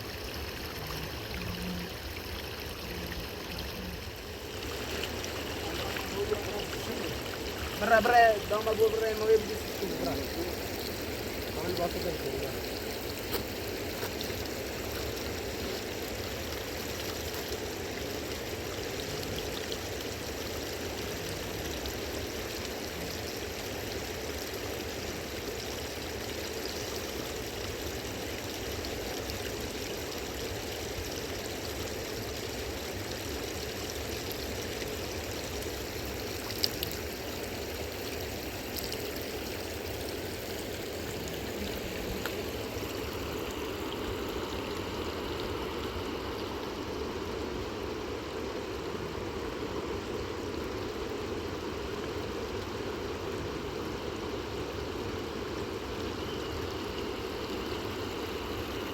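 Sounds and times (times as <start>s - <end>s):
fast-flowing river: 0.0s - 58.9s.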